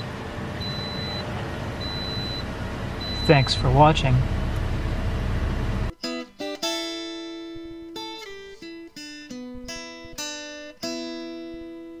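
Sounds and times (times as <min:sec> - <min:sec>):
acoustic guitar picking notes: 0:00.0 - 0:12.0.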